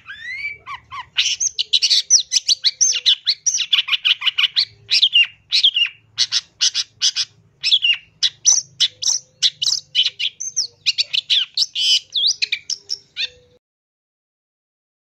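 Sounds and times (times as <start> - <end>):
bird singing harsh chattering notes: 0.0 - 13.6.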